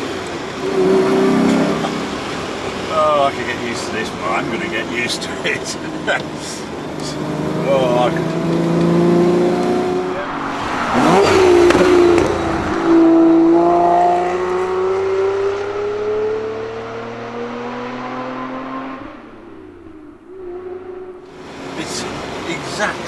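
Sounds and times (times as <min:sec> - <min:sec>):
car engine accelerating past: 0:00.0 - 0:03.3, 0:06.9 - 0:22.7.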